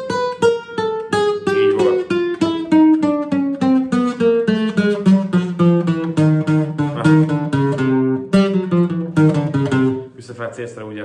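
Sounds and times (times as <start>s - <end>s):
acoustic guitar plucking scale: 0.0s - 10.5s.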